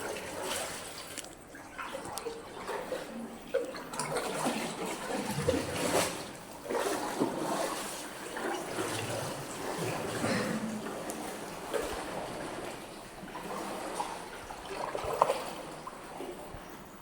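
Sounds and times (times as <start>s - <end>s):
water splashing around canoe: 0.0s - 17.0s.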